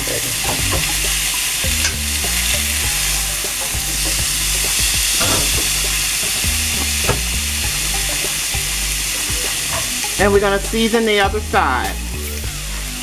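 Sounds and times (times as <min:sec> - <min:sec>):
chicken sizzling on grill: 0:00.0 - 0:13.0.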